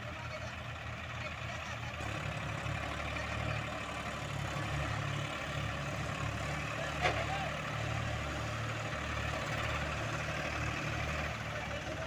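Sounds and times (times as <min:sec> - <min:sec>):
tractor diesel engines droning: 0:00.0 - 0:12.0.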